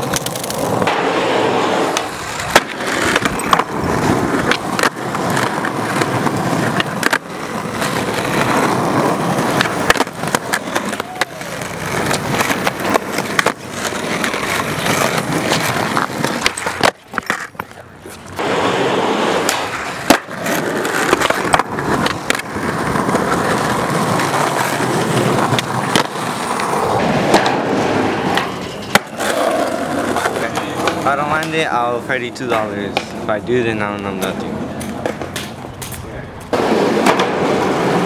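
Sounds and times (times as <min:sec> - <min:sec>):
skateboard clacks: 0:00.0 - 0:33.3, 0:34.0 - 0:38.0
skateboard wheels rolling on asphalt: 0:00.0 - 0:38.0.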